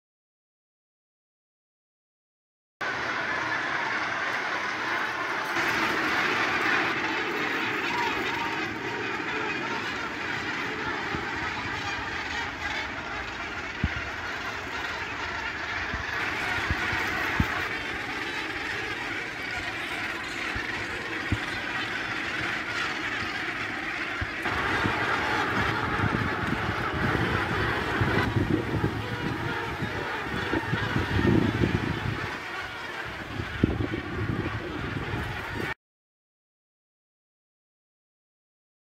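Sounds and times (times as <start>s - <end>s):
seabird colony calling: 2.8s - 35.8s.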